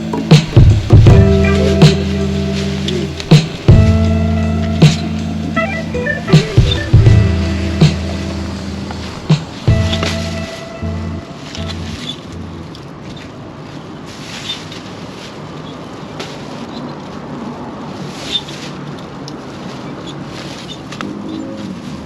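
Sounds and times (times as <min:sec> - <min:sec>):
street noise rushing: 0:00.0 - 0:22.0.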